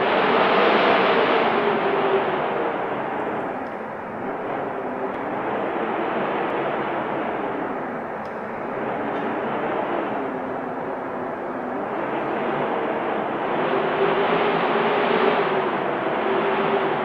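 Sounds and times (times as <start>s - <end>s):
wind gusting: 0.0s - 17.0s.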